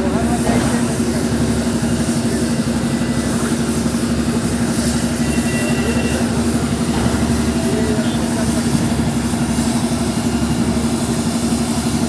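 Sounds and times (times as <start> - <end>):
heavy engine running: 0.0 - 12.0.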